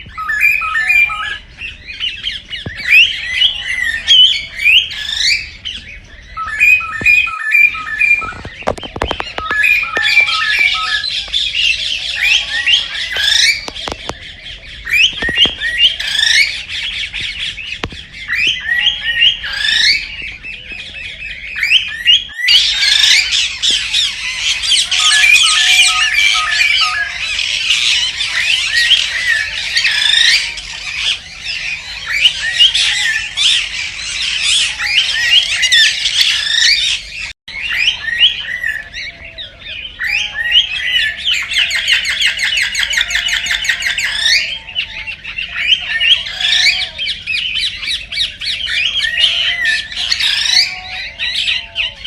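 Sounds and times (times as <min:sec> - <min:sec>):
cockatiels chirping and squawking: 0:00.0 - 0:52.0.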